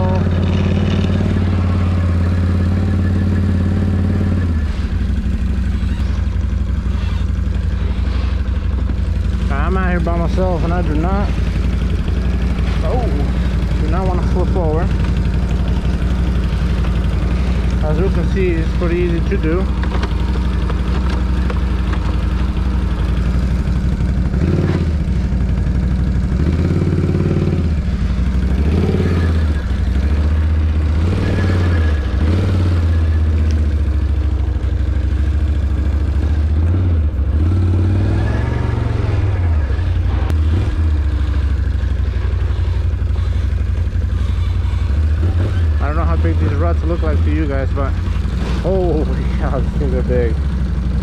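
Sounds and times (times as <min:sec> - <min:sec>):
quad bike engine revving: 0:00.0 - 0:51.0.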